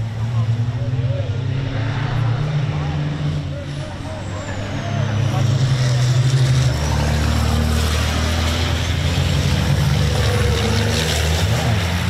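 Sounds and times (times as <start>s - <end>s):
diesel truck engines running hard: 0.0s - 12.0s.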